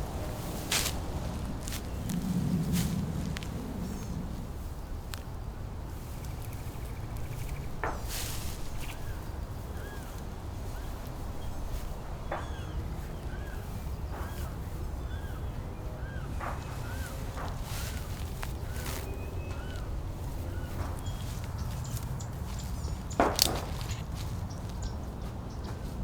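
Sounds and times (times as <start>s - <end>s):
steady low rumble: 0.0s - 25.7s.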